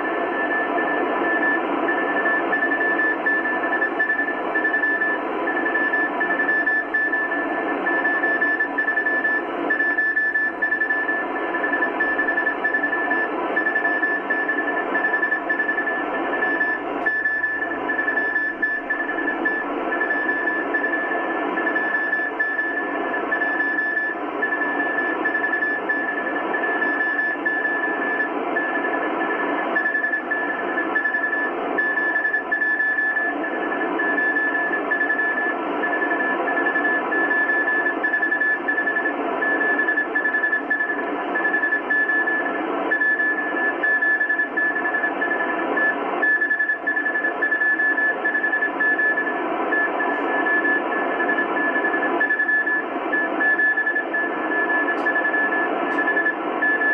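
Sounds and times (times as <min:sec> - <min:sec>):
morse code tone: 0:00.3 - 0:56.9.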